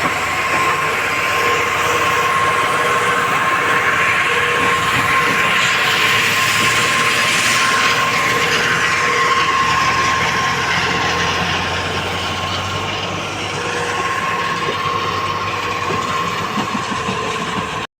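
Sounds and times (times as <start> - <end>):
heavy diesel machinery running: 0.0 - 17.9
high whine: 0.0 - 17.9.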